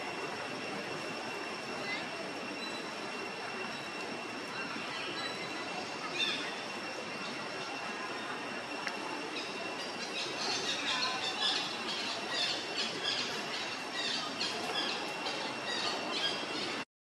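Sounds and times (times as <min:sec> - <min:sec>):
steady high whine: 0:00.0 - 0:16.8.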